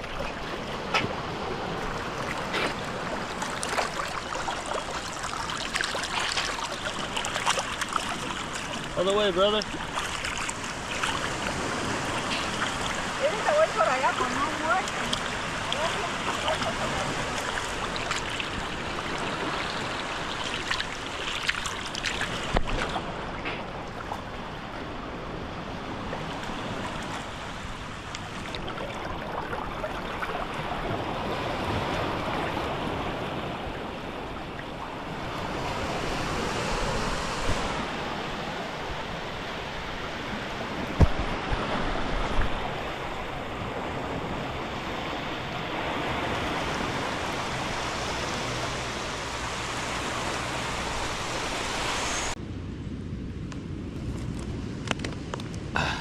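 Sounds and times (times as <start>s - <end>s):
rushing water: 0.0s - 52.4s.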